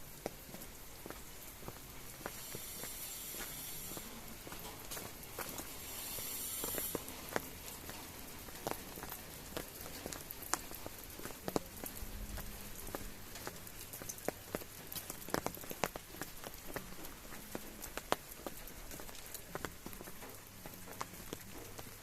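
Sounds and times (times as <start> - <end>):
rain falling: 0.0 - 22.0
raindrop ticks: 0.0 - 22.0.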